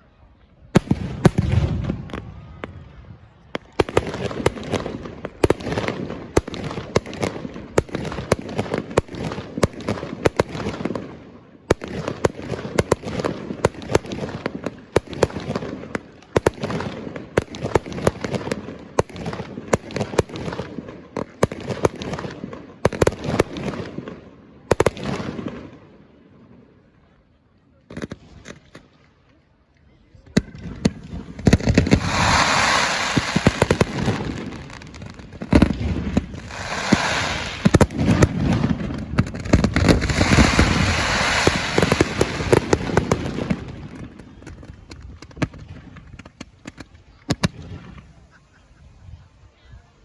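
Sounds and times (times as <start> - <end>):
fireworks banging and crackling: 0.7 - 27.2, 27.8 - 29.4, 30.2 - 48.5.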